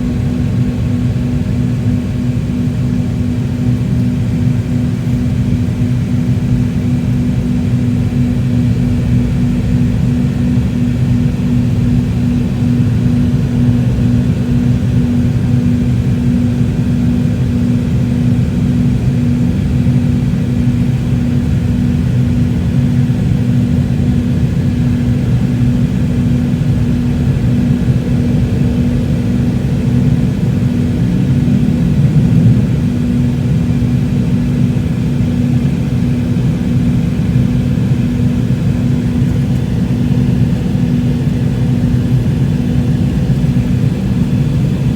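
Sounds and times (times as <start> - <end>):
jet engine drone in cabin: 0.0 - 44.9.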